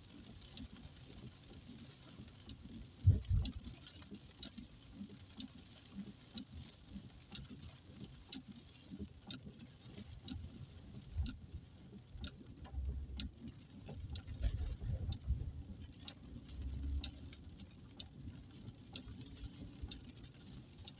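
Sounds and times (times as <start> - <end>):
car driving on wet road: 0.0 - 20.9
rain pattering on car roof: 0.0 - 20.9.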